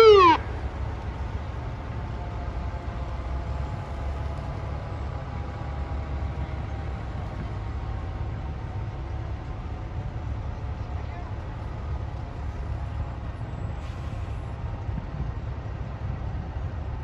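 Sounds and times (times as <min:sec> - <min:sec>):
fire truck engines idling: 0:00.0 - 0:17.0.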